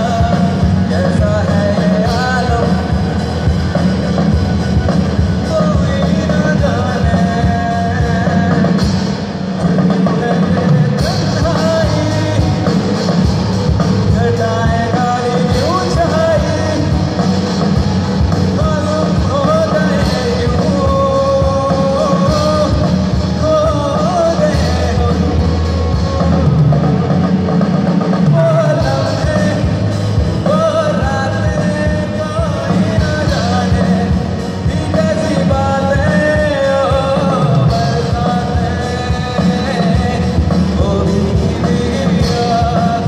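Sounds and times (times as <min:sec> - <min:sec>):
person singing: 0:00.0 - 0:43.0
rock band playing live: 0:00.0 - 0:43.0
steady drum beat: 0:00.0 - 0:43.0.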